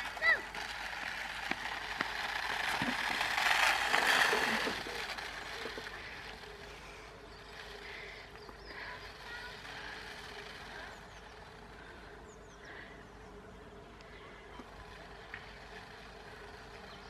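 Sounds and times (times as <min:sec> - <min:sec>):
toy car electric motor whirring: 0:00.0 - 0:12.2, 0:14.5 - 0:17.0
tyres on tarmac: 0:00.0 - 0:17.0.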